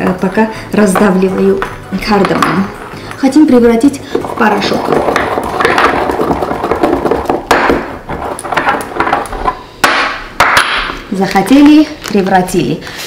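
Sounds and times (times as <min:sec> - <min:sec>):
mortar and pestle knocking: 0:00.0 - 0:11.0.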